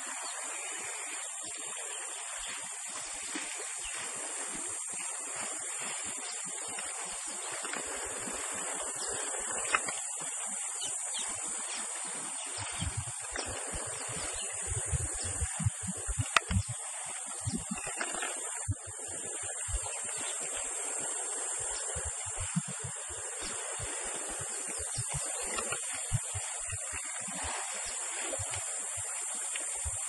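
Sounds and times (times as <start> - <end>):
high-pitched insect buzz: 0.0 - 30.0.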